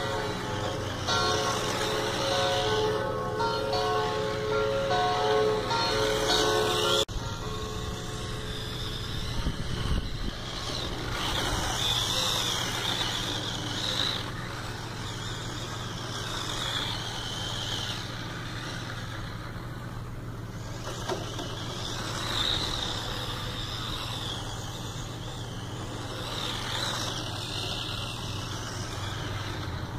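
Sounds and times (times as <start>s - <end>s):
steady low hum: 0.0s - 29.9s
toy car electric motor whining: 0.0s - 29.9s.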